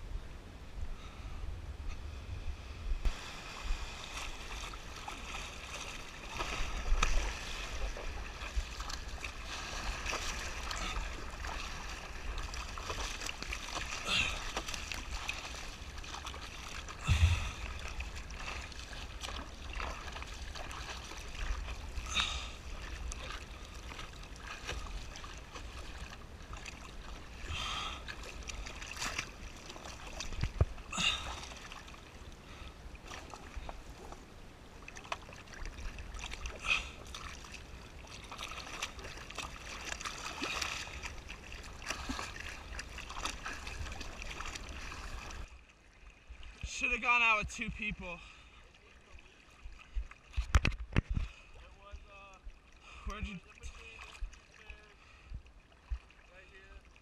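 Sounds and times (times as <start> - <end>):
water lapping against board: 3.1 - 57.0.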